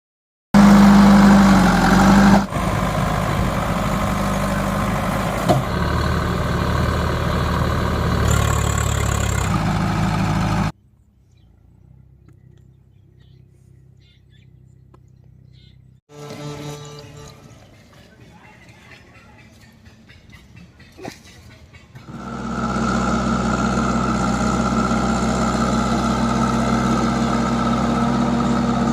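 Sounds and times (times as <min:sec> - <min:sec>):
diesel engine running: 0:00.6 - 0:18.6, 0:22.0 - 0:28.9.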